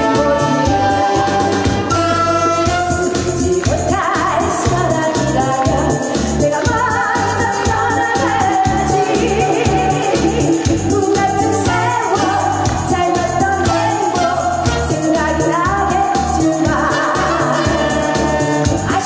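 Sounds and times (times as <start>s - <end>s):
band playing a steady beat: 0.0s - 19.0s
woman singing into a microphone: 0.0s - 19.0s.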